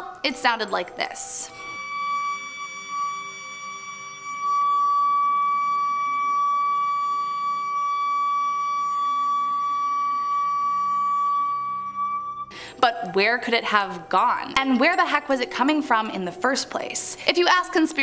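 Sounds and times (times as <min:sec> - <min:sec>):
steady high-pitched tone: 0:00.0 - 0:18.0.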